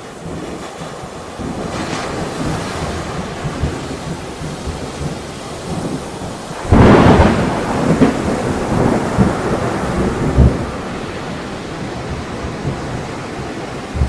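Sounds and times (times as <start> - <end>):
heavy storm rain: 0.0 - 14.0
thunder rolling and cracking: 0.0 - 14.0.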